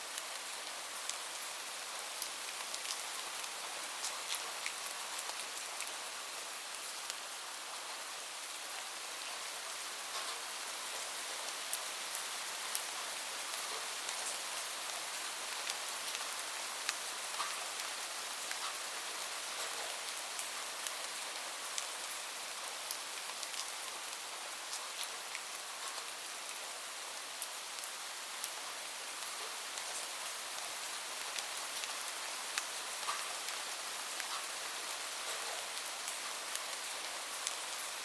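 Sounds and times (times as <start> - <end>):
rain falling: 0.1 - 38.0.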